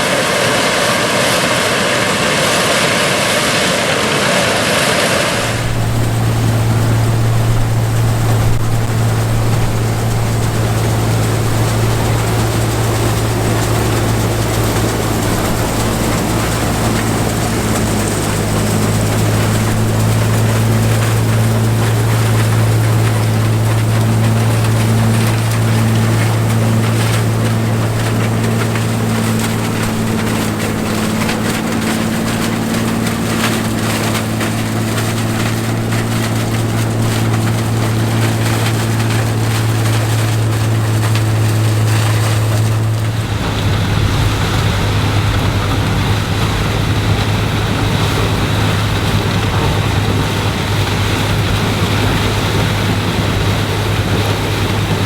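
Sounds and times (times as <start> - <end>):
combine harvester engine running: 0.0 - 55.0
rough noisy engine: 0.0 - 55.0
wind noise on microphone: 0.0 - 55.0.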